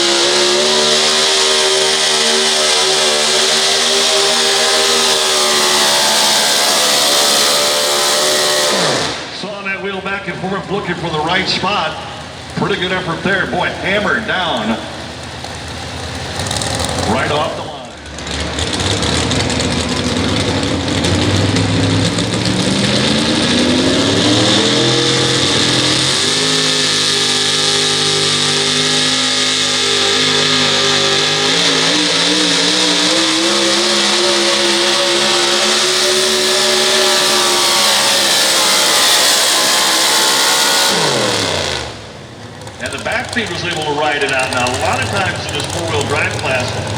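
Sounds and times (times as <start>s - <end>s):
truck engine at full throttle: 0.0s - 46.9s.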